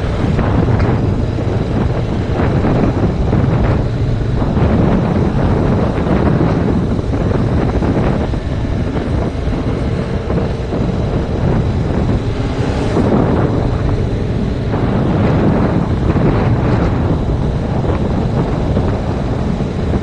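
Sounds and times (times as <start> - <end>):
wind buffeting camera microphone: 0.0 - 20.0.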